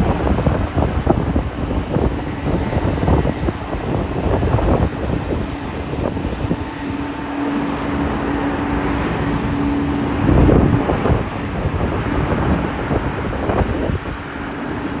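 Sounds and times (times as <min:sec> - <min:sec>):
jet airliner landing: 0:00.0 - 0:15.0.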